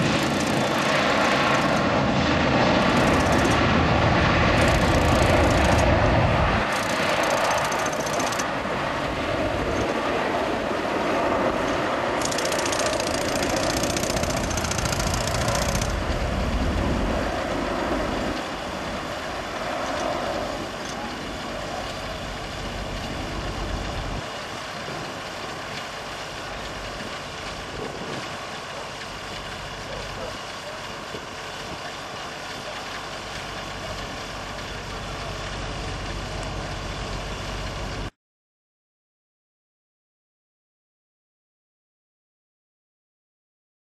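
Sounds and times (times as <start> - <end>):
jet engines rumbling: 0.0 - 38.1.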